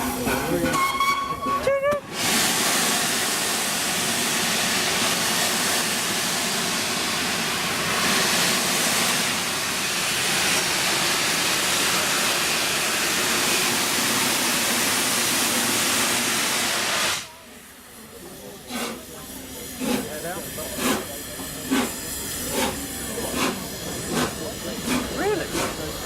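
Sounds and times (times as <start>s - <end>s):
steam locomotive hissing steam: 0.0s - 26.0s.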